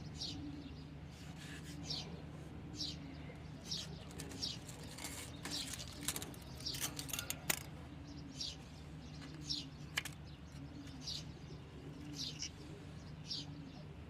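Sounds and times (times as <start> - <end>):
low bird cooing: 0.0 - 14.0.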